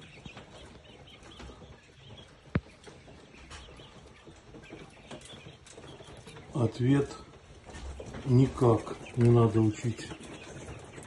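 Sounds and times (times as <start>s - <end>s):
quail chirping: 0.0s - 11.0s.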